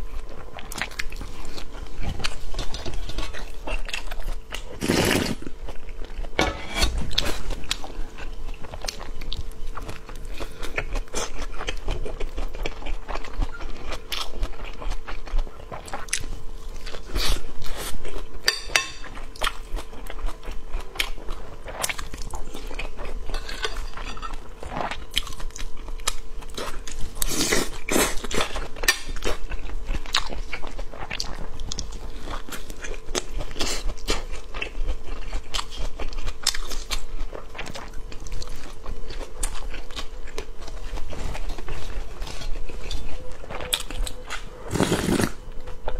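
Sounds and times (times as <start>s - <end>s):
faint steady hum: 0.0s - 45.9s
person chewing flatbread: 0.0s - 45.9s.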